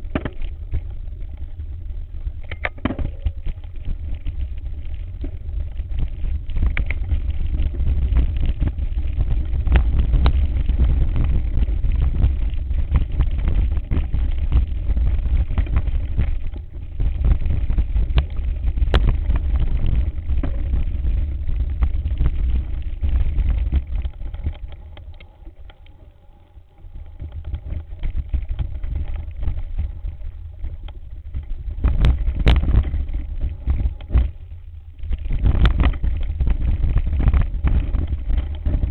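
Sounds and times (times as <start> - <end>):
bike rattles and clicks: 0.0 - 38.9
low rumble of vibration and wind: 0.0 - 38.9.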